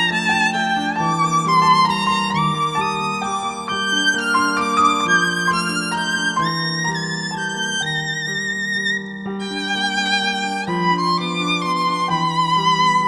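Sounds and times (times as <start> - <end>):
violin melody with vibrato: 0.0 - 13.0.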